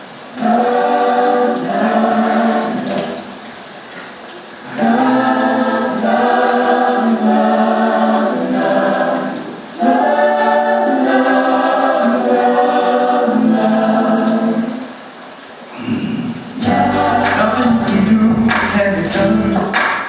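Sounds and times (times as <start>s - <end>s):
choir-like singing: 0.3s - 3.4s, 4.6s - 15.1s, 15.7s - 19.8s.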